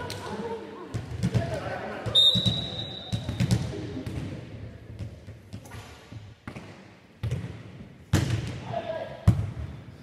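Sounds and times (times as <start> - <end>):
volleyball slaps echoing in a hall: 0.0 - 10.0.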